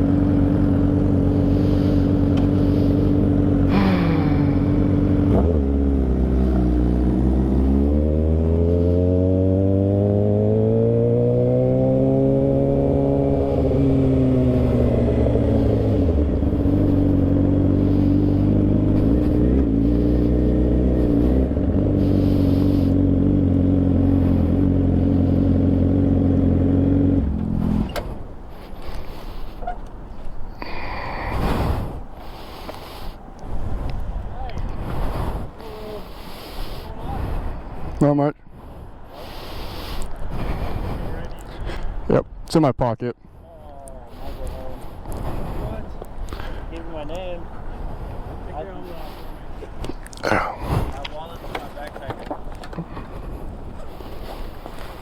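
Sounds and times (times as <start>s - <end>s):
motorcycle engine: 0.0s - 33.6s, 44.3s - 55.0s.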